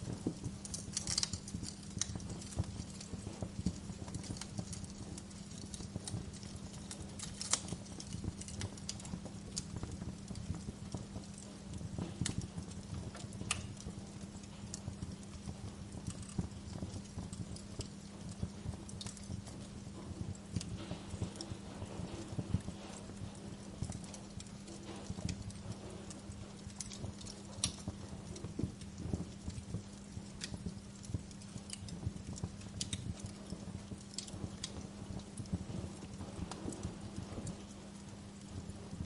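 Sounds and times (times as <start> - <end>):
steady low hum: 0.0 - 39.0
wood fire crackling: 0.0 - 39.0.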